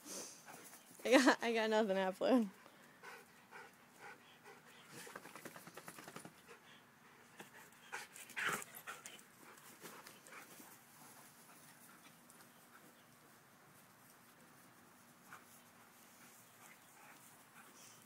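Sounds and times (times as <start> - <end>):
dogs panting: 0.3 - 1.2, 2.5 - 13.3, 15.0 - 18.0.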